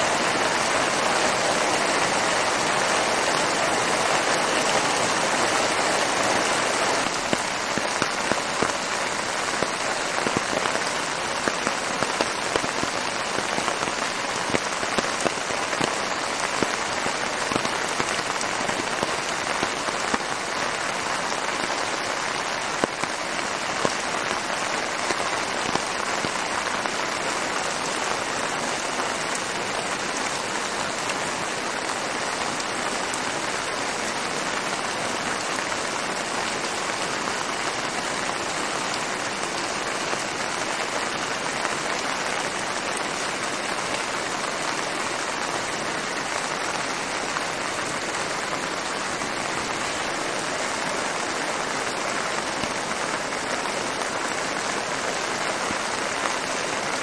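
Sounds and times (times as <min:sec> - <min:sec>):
heavy rain hissing: 0:00.0 - 0:57.0
splashes of raindrops: 0:00.0 - 0:57.0.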